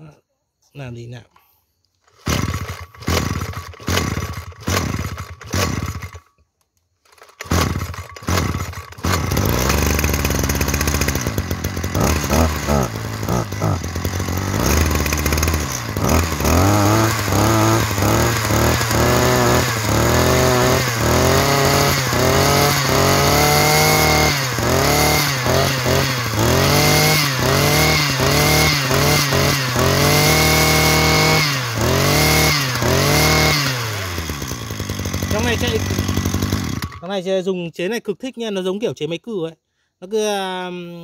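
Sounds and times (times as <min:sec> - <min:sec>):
brush cutter engine revving: 0:02.0 - 0:06.3, 0:07.0 - 0:37.4.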